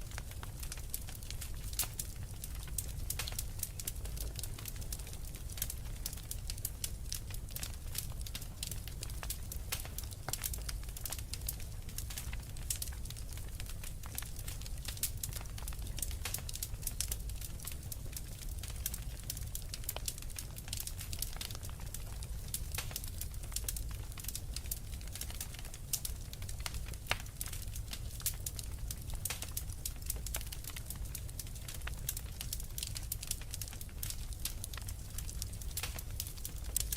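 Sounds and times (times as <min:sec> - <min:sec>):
low rumble of fire: 0:00.0 - 0:36.9
wood fire crackling and popping: 0:00.0 - 0:36.9.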